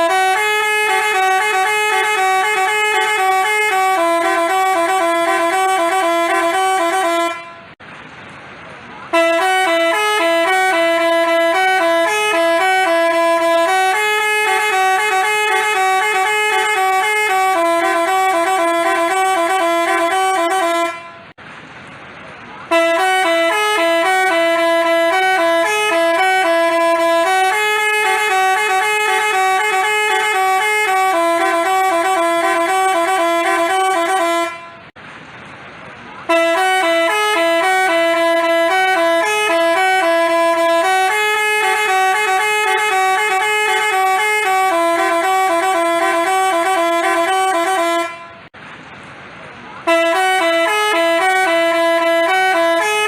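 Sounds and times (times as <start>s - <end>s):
bus horn playing a melody: 0.0s - 7.8s, 9.0s - 21.4s, 22.6s - 35.0s, 36.2s - 48.6s, 49.8s - 53.0s.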